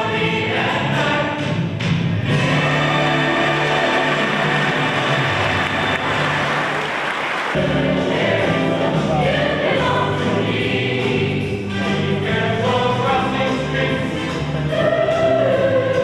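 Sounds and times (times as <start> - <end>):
choir singing with music: 0.0 - 16.0.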